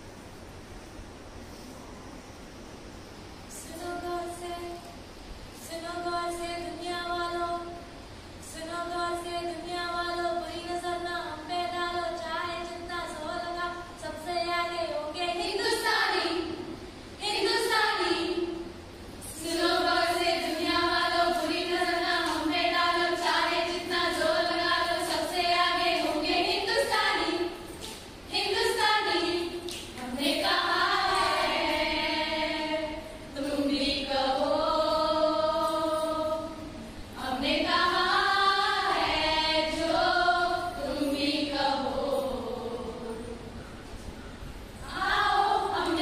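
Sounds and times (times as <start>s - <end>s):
women singing in unison: 5.6s - 43.6s, 44.8s - 46.0s.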